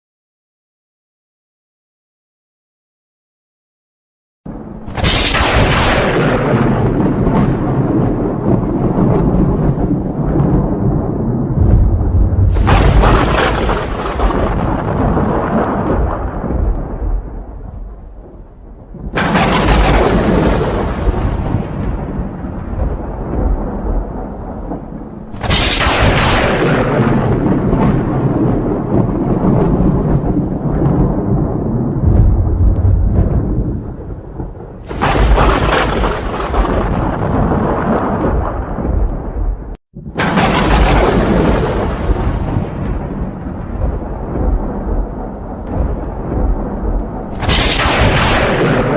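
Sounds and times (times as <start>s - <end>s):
crackling thunder crash: 4.5s - 48.9s
rain: 4.5s - 48.9s
sudden thunderclap: 4.5s - 48.9s.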